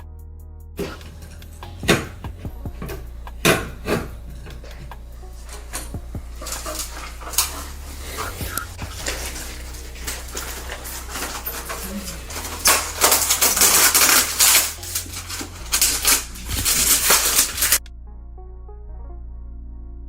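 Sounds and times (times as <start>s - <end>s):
soft ambient synth music: 0.0s - 20.0s
dense rustling: 0.8s - 17.8s
rapid clicking clatter: 0.8s - 17.8s
steady low hum: 0.8s - 17.9s.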